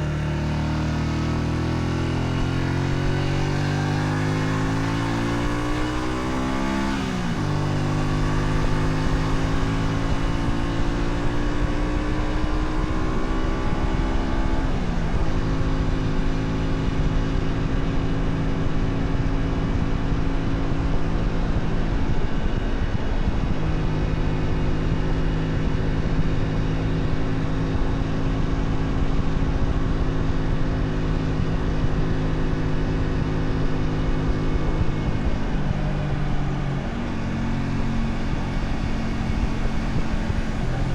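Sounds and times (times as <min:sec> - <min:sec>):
motorcycle engine shifting gears: 0:00.0 - 0:40.9.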